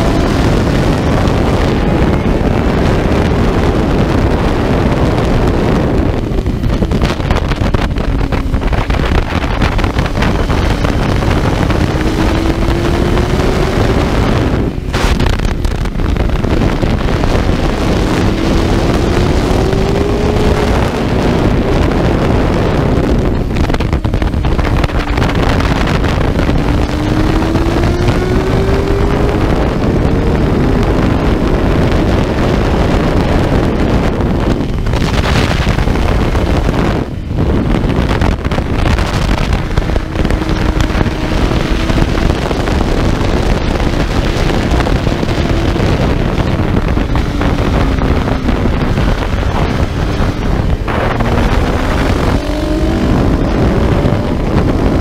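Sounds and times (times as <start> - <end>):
motorcycle engine revving: 0.0 - 55.0
wind buffeting microphone: 0.0 - 55.0.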